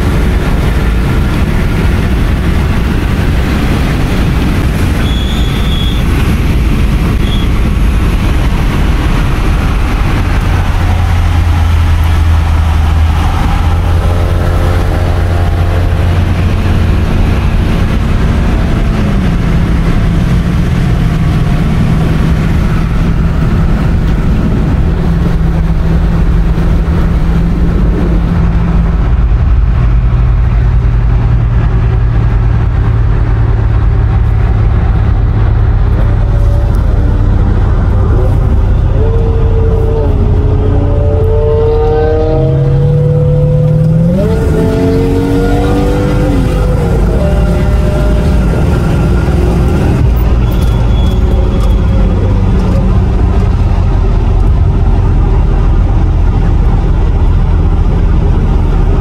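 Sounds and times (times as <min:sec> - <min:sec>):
car engine drone: 0:00.0 - 0:59.0
tyre and wind rumble: 0:00.0 - 0:59.0.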